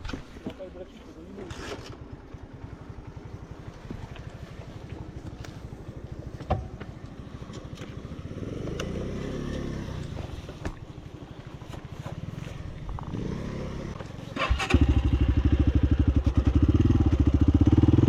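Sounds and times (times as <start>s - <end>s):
small motorcycle engine running: 1.5s - 10.2s, 11.7s - 18.0s.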